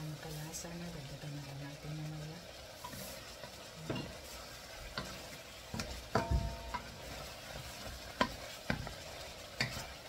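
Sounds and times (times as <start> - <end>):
chicken sizzling: 0.0 - 10.0
wooden spoon scraping wok: 0.0 - 10.0.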